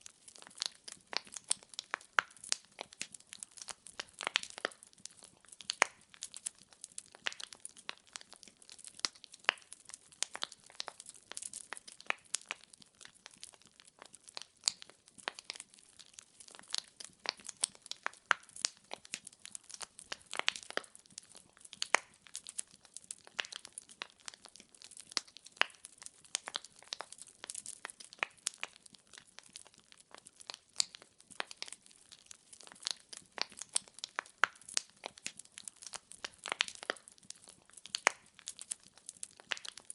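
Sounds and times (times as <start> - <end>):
firewood crackling: 0.0 - 39.9.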